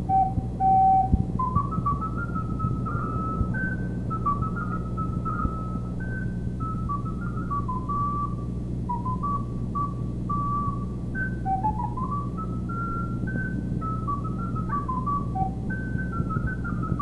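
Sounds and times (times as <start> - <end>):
solo recorder melody: 0.0 - 17.0
steady low hum: 0.0 - 17.0.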